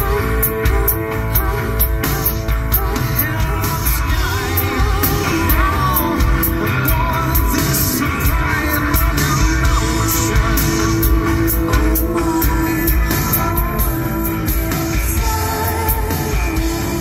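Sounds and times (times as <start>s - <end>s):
electric bass: 0.0s - 17.0s
electric guitar: 0.0s - 17.0s
man singing amplified: 0.0s - 17.0s
steady drum beat: 0.0s - 17.0s.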